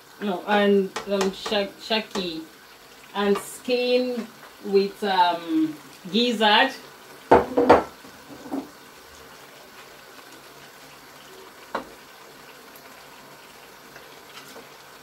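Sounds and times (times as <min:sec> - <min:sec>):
stew sizzling in a pot: 0:00.0 - 0:15.0.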